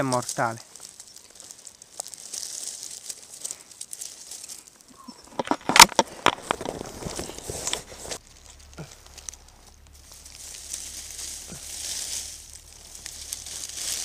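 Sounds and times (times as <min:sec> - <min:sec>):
leaves crunching underfoot: 0:00.0 - 0:14.0
twigs cracking: 0:00.0 - 0:14.0.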